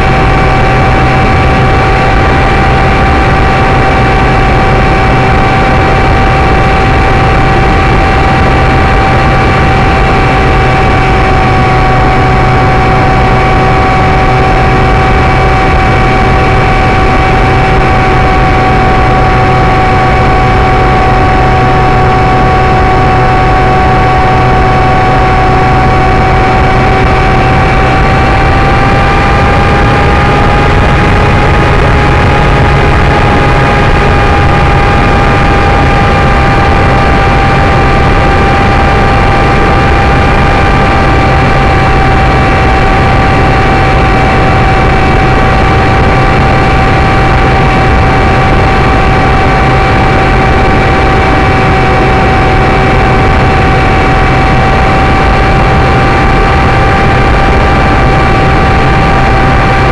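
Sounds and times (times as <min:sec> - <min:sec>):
electric motor and propeller whining: 0:00.0 - 0:59.9
rushing air noise: 0:00.0 - 0:59.9.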